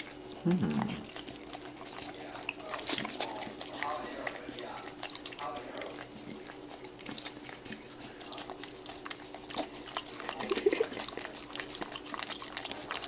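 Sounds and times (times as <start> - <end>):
dog licking food off spoon: 0.0 - 13.0.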